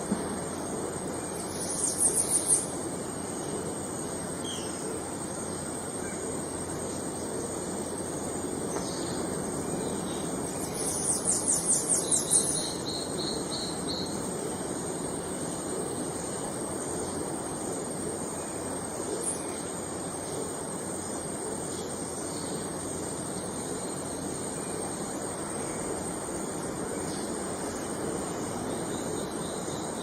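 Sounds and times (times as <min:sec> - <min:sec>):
high-pitched insect trill: 0:00.0 - 0:30.0.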